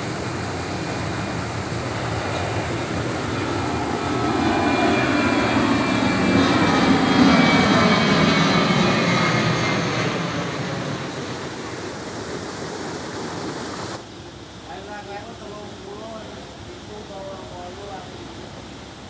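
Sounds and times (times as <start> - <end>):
jet airliner engines roaring: 0.0 - 19.0.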